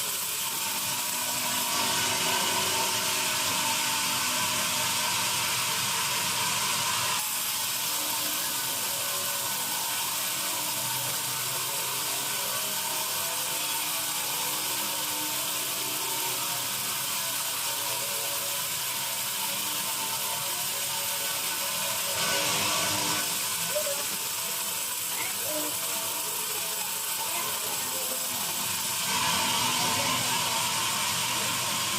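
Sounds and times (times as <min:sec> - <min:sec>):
band saw running: 0:00.0 - 0:31.9.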